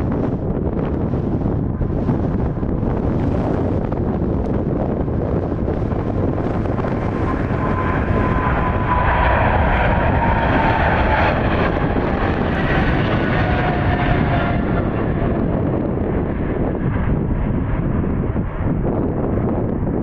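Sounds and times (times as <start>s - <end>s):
jet engines at take-off thrust: 0.0s - 20.0s.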